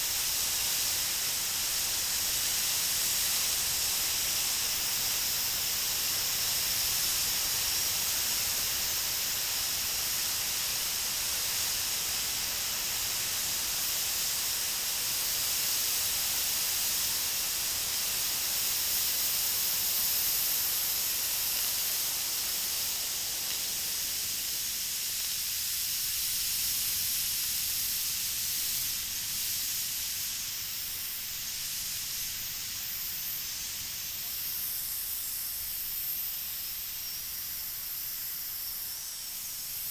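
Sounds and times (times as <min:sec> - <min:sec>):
pressure cooker hissing steam: 0:00.0 - 0:39.9.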